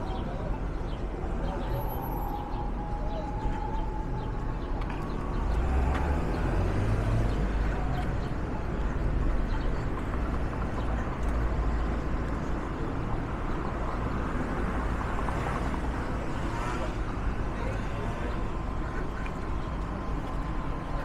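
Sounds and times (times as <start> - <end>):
vehicles passing on busy street: 0.0 - 21.0.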